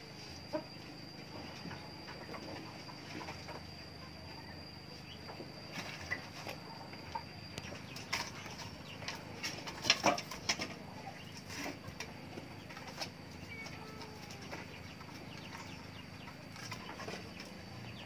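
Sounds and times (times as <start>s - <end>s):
steady high whine: 0.0s - 18.0s.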